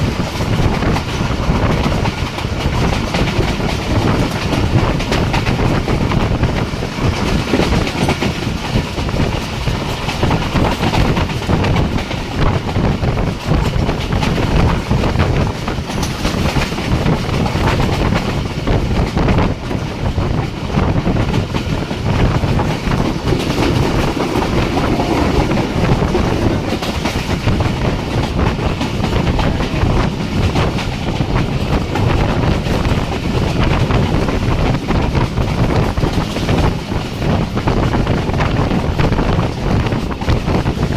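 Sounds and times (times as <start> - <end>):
train rumble: 0.0 - 40.9
train wheels clattering on rails: 0.0 - 40.9.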